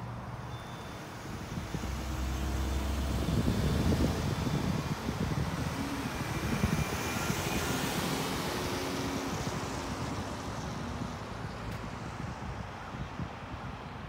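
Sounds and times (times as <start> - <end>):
car passing on road: 0.0 - 13.0.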